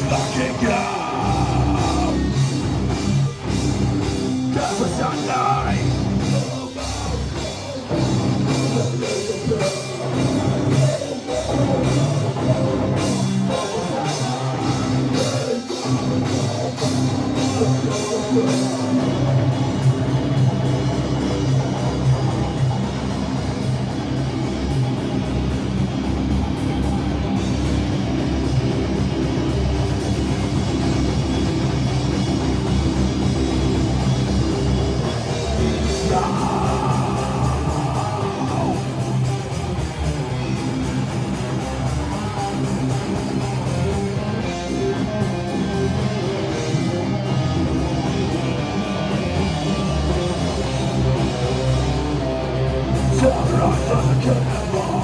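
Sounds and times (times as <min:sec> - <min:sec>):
high electric guitar line: 0:00.0 - 0:55.0
metal band playing live: 0:00.0 - 0:55.0.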